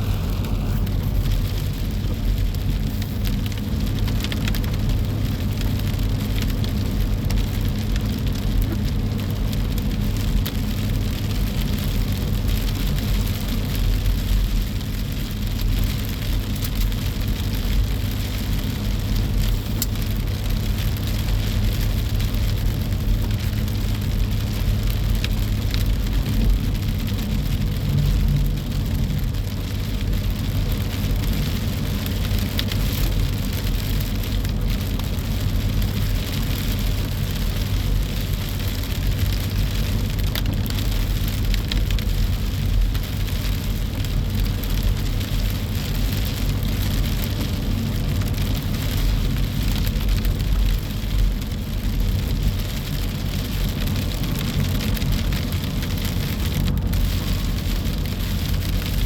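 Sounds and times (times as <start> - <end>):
steady rain: 0.0 - 59.0
wind rumbling on microphone: 0.0 - 59.0.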